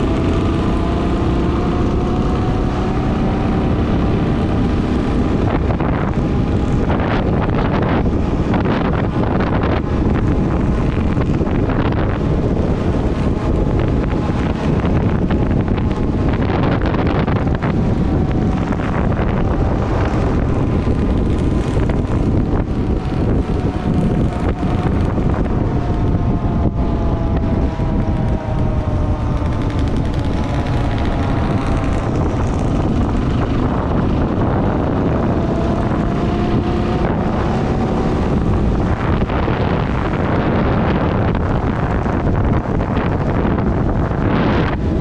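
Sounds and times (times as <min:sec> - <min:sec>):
motorcycle engine running: 0:00.0 - 0:45.0
wind buffeting microphone: 0:00.0 - 0:45.0.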